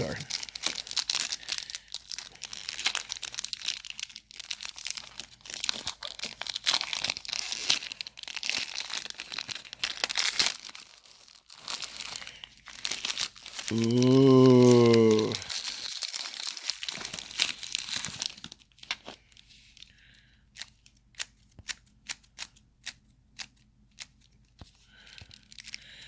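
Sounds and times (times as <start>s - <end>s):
packaging crinkling and rustling: 0.0s - 20.0s, 23.4s - 26.0s.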